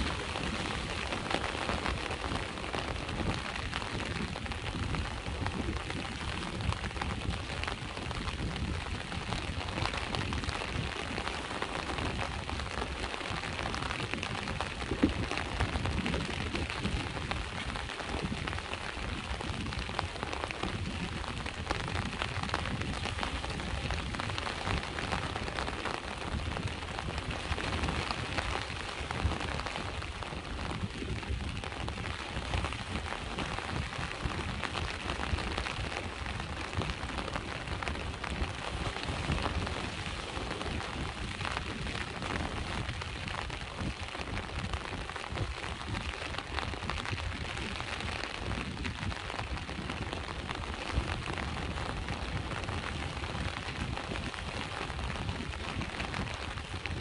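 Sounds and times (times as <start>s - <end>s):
rain falling: 0.0s - 57.0s
sea waves rumbling: 0.0s - 57.0s.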